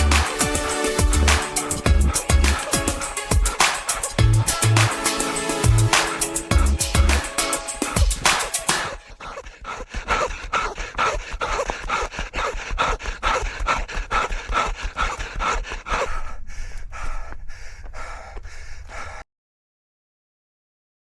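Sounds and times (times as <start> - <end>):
runner panting hard: 0.2 - 19.3.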